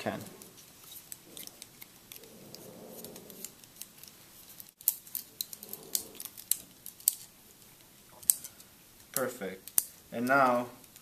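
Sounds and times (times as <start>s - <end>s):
craft sticks and rubber bands clicking: 0.4s - 11.0s.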